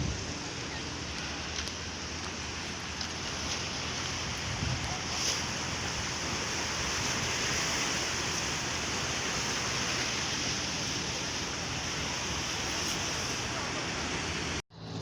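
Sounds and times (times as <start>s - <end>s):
sea surf on rocky shore: 0.0s - 14.6s.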